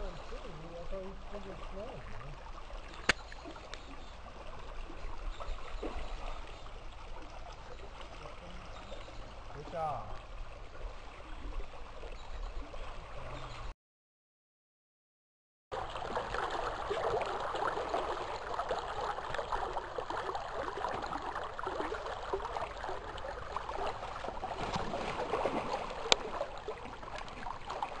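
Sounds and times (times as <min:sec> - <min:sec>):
river water gurgling: 0:00.0 - 0:13.7, 0:15.8 - 0:28.0.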